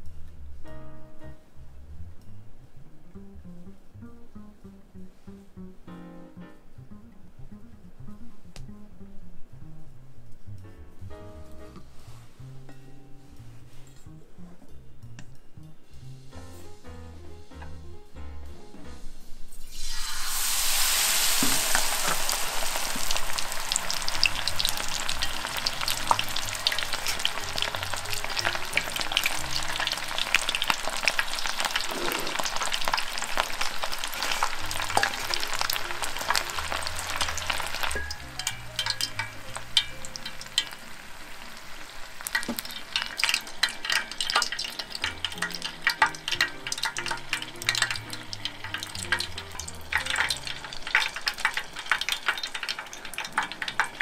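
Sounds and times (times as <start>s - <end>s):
tempura deep-frying sizzle: 0.0s - 54.0s.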